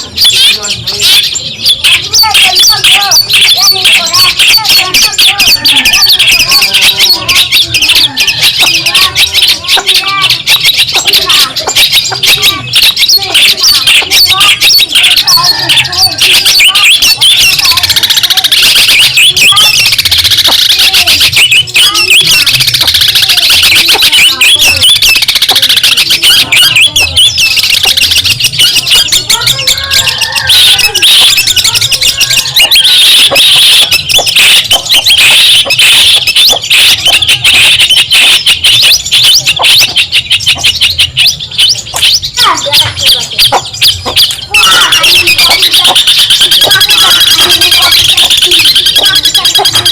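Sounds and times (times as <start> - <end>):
bird singing scratchy chatter: 0.0 - 49.9.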